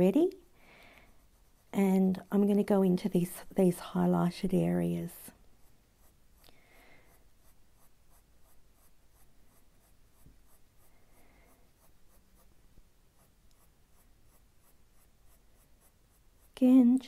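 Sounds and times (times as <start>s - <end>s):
pencil scratching on paper: 1.0s - 17.0s.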